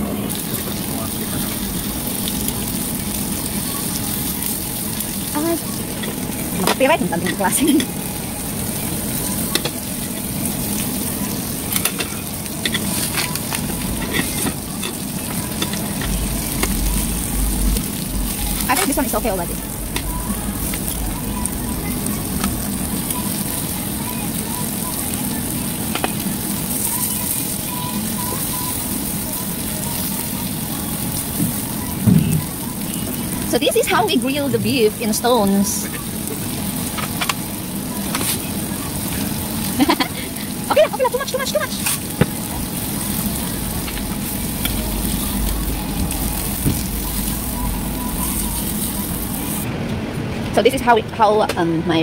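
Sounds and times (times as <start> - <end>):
beef sizzling on hot stone: 0.0 - 49.6
steady background hum: 0.0 - 52.0.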